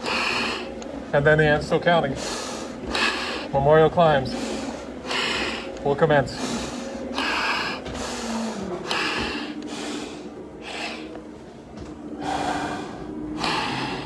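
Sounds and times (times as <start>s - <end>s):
heavy breathing through face mask: 0.0s - 1.2s, 1.9s - 14.0s.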